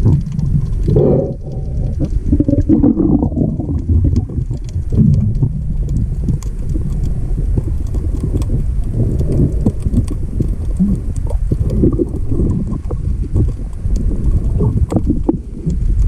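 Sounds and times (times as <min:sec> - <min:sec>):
faint clicks and knocks: 0:00.0 - 0:16.0
underwater rumble of water: 0:00.0 - 0:16.0.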